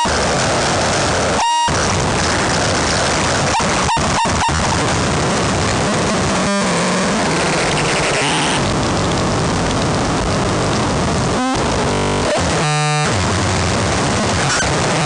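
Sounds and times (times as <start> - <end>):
glitchy buzzing stutters: 0.0 - 15.0
harsh noise music static: 0.0 - 15.0.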